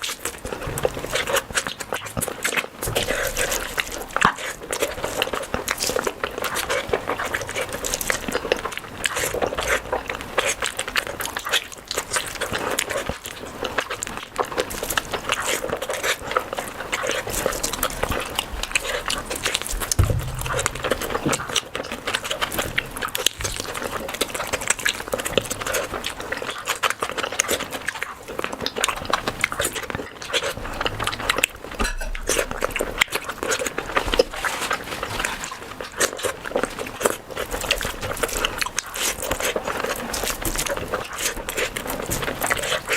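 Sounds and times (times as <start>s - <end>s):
chewing and mouth clicks: 0.0s - 42.9s.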